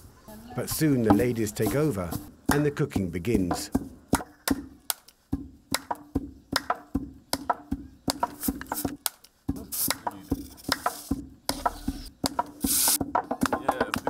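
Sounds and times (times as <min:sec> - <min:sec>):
pestles pounding in wooden mortar: 0:01.0 - 0:14.0.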